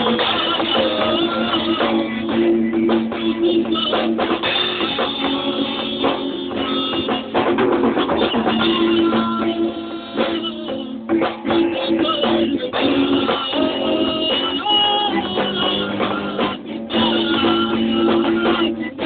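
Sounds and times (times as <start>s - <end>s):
drum kit: 0.0s - 19.0s
guitar: 0.0s - 19.0s.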